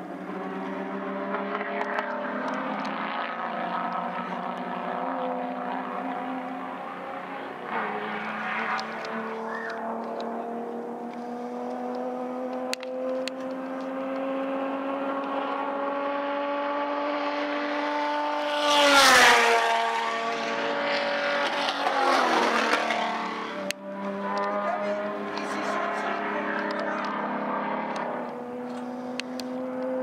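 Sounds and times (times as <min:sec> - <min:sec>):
race car engines running: 0:00.0 - 0:30.0
race car passing by: 0:00.0 - 0:30.0.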